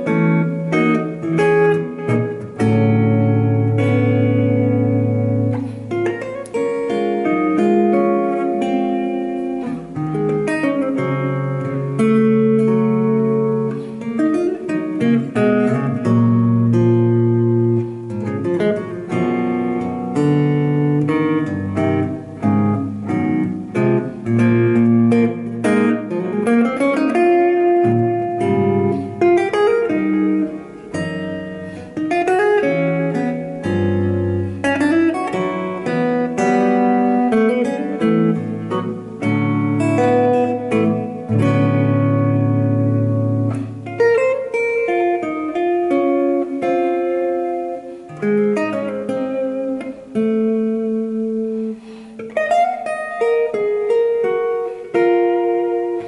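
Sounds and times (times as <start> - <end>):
solo jazz electric guitar: 0.0 - 56.0.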